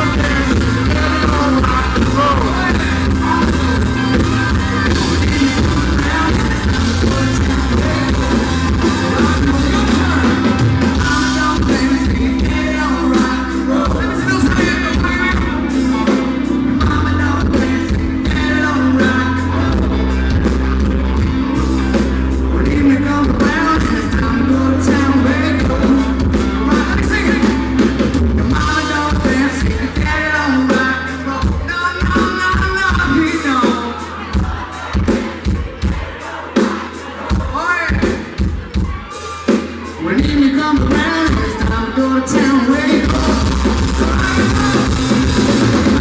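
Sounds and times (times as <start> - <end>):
country band playing live: 0.0 - 46.0
lead singer singing: 0.0 - 46.0.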